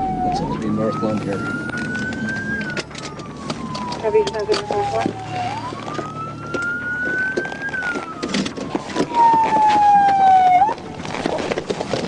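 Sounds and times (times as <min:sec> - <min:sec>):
police siren wailing: 0:00.0 - 0:11.8.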